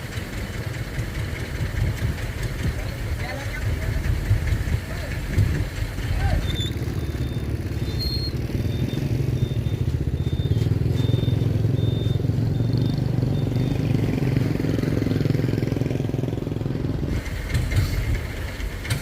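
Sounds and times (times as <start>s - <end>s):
engine pulsing rumble: 0.0s - 19.0s.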